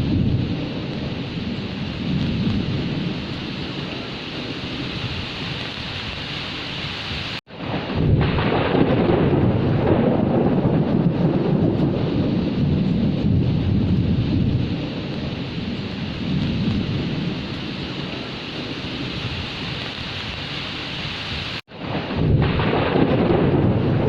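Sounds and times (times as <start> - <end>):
heavy rain: 0.0 - 24.0
low rolling thunder: 0.0 - 24.0.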